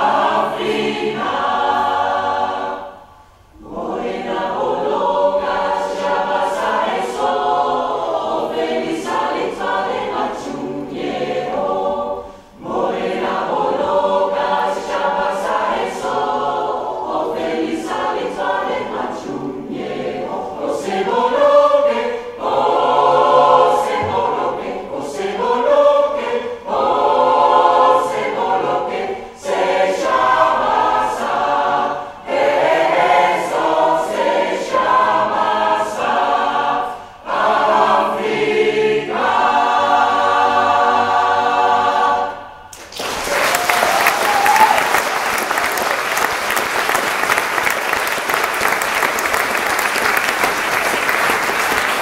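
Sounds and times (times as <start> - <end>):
mixed choir singing: 0.0 - 52.0.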